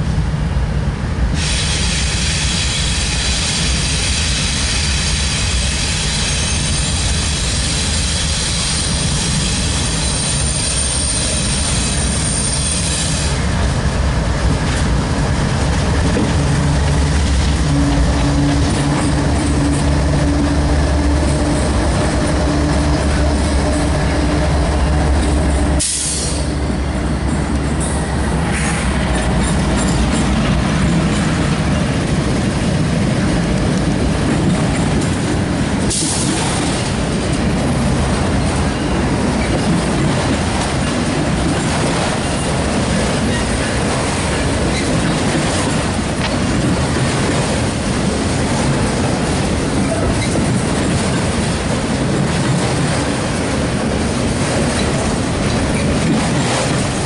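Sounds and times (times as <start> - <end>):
diesel locomotive rumble: 0.0 - 57.0
steel wheels squealing on rail: 1.3 - 13.5, 16.2 - 32.1, 34.3 - 35.2, 35.8 - 47.6, 48.7 - 53.5, 54.6 - 57.0.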